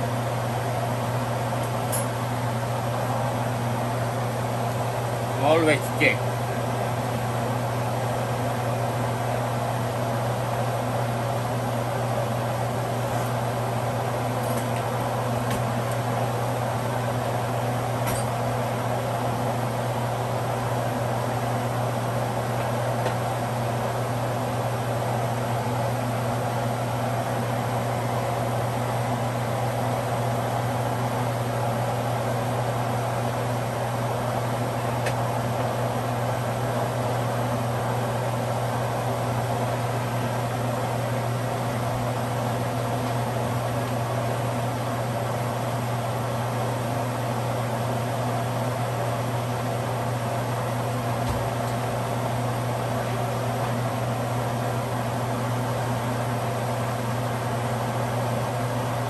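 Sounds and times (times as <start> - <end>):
mechanical hum with airy whoosh: 0.0 - 59.0.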